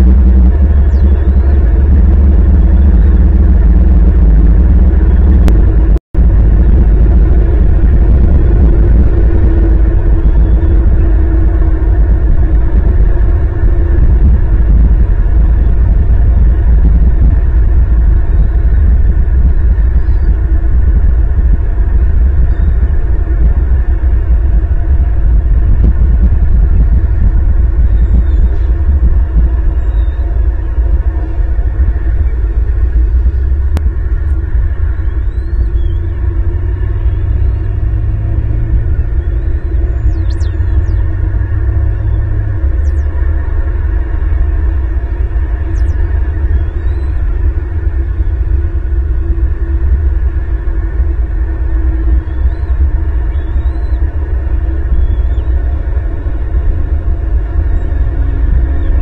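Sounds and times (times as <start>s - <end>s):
wind buffeting a microphone: 0.0s - 59.0s.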